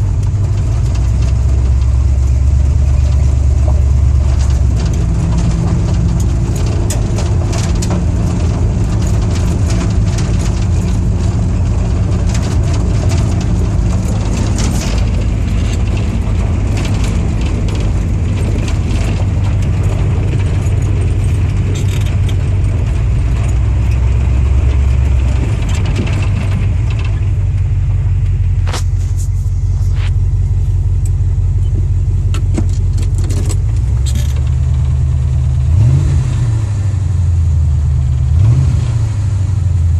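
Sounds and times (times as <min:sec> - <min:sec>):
car engine running: 0:00.0 - 0:39.9
engine revving: 0:01.1 - 0:27.4, 0:32.4 - 0:37.1, 0:37.8 - 0:39.7.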